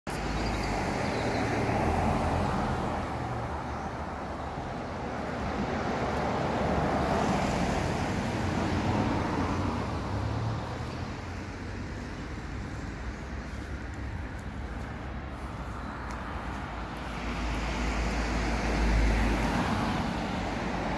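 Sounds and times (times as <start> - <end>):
cars passing: 0.1 - 20.9.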